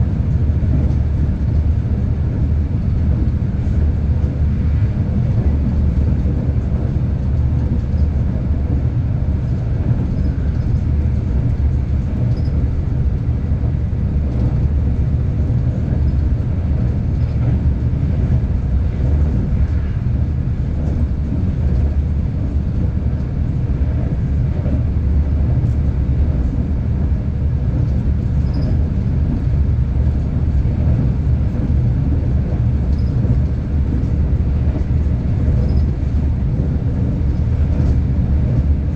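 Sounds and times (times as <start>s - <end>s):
passenger train rumbling on track: 0.0s - 38.9s.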